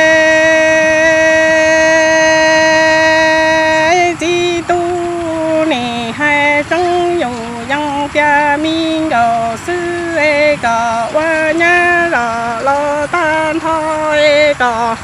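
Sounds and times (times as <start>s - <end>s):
woman singing unaccompanied: 0.0s - 15.0s.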